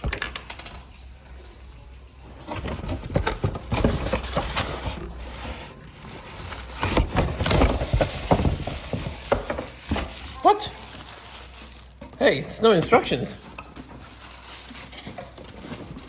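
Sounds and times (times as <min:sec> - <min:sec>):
rummaging in cardboard box: 0:02.2 - 0:16.0.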